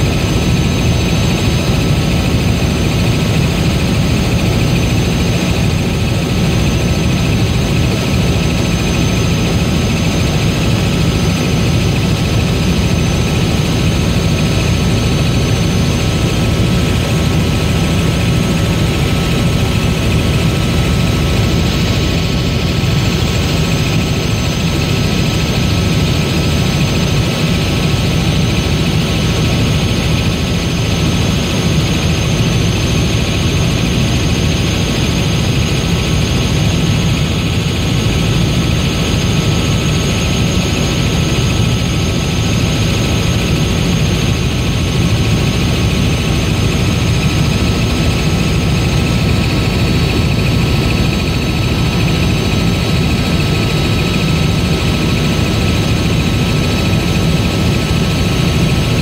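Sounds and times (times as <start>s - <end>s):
aircraft engine drone: 0.0s - 59.0s.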